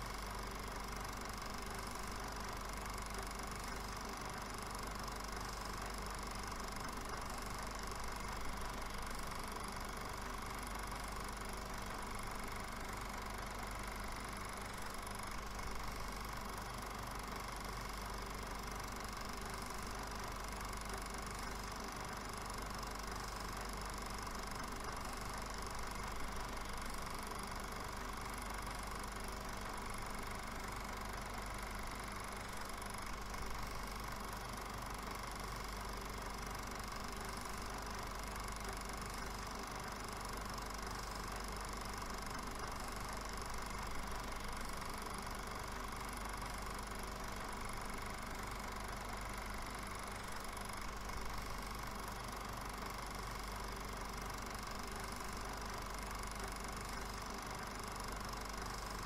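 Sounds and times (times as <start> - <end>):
film projector whirring: 0.0 - 59.0.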